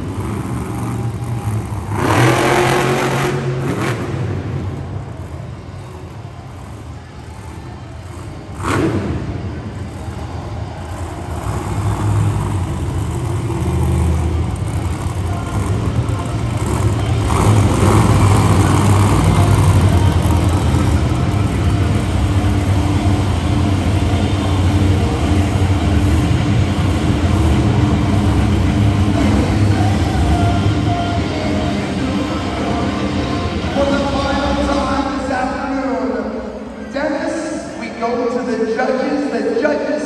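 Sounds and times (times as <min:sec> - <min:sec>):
monster truck engine running loud: 0:00.0 - 0:37.8.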